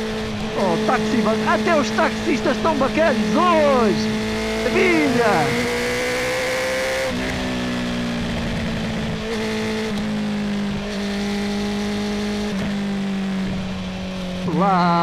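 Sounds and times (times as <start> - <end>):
motorcycle engine cruising: 0.0 - 14.5.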